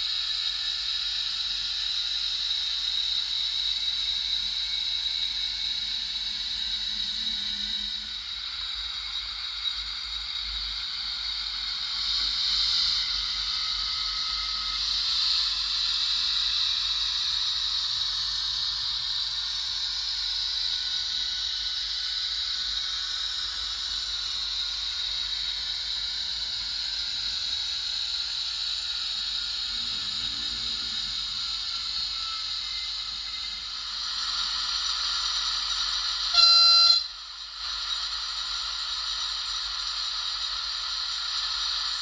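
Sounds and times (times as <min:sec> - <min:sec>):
model train hiss on rails: 0:00.0 - 0:42.0.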